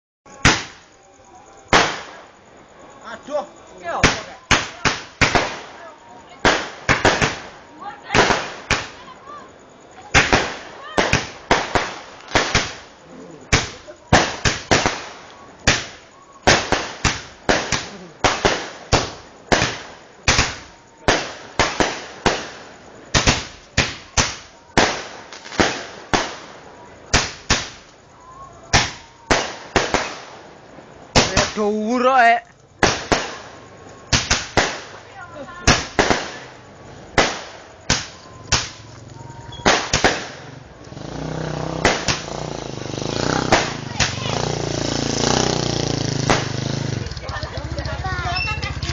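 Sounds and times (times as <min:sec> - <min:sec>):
fireworks bangs: 0:00.3 - 0:48.9.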